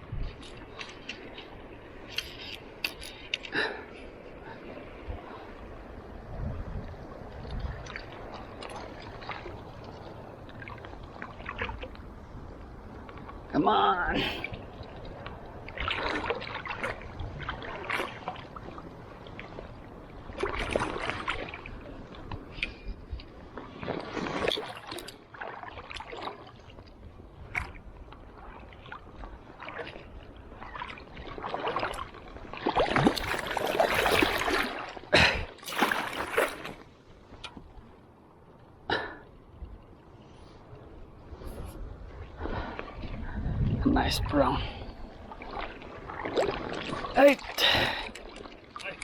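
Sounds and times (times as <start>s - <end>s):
river water splashing: 0.0s - 39.4s, 44.1s - 49.0s.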